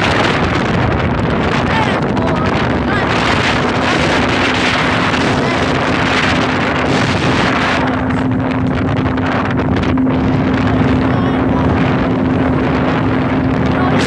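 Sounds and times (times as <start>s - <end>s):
motorboat engine humming: 0.0s - 14.0s
wind buffeting microphone: 0.0s - 14.0s.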